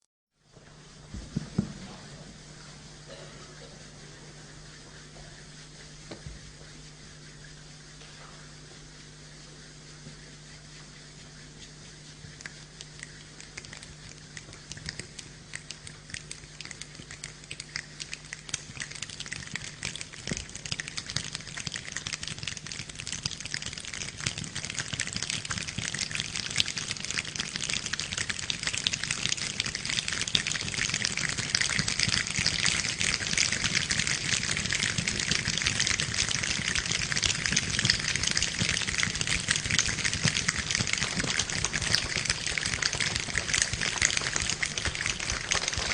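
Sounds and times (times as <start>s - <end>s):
dense patter of tiny crackles: 1.0s - 45.9s.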